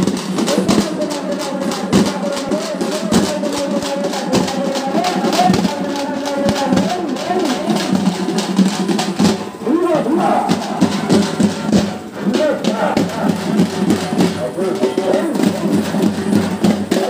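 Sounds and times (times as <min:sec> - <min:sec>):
frame drums beaten with sticks: 0:00.0 - 0:17.0.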